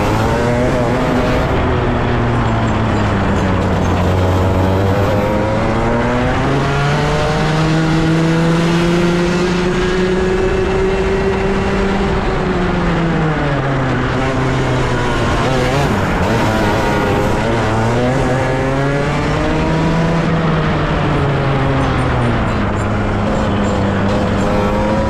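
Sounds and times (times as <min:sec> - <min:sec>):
kart engine at full throttle: 0:00.0 - 0:25.0.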